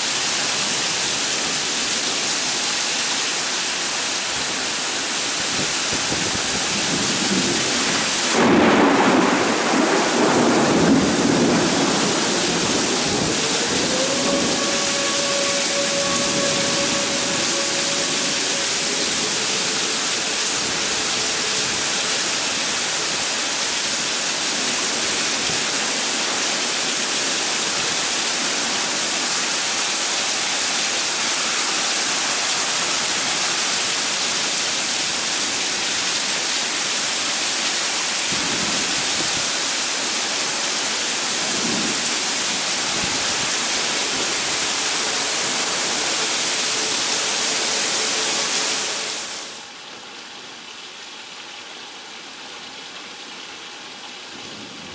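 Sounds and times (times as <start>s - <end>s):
heavy wind-driven rain: 0.0s - 54.9s.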